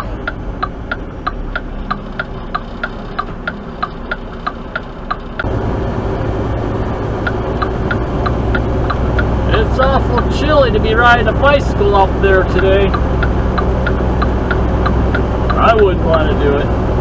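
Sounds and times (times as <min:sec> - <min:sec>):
turn signal clicking: 0:00.0 - 0:05.5, 0:06.9 - 0:16.5
diesel truck engine running: 0:00.0 - 0:17.0.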